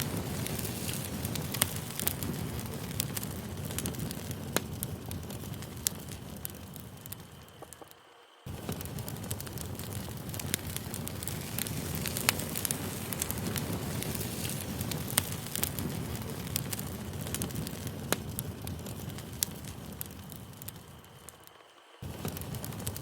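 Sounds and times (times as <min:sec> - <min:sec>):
campfire flames rushing: 0:00.0 - 0:23.0
fire crackles and pops: 0:00.0 - 0:23.0.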